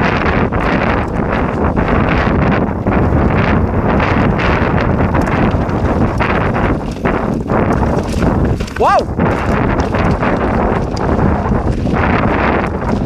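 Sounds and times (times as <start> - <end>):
bike knocks and rattles: 0.0 - 13.0
wind buffeting microphone: 0.0 - 13.0.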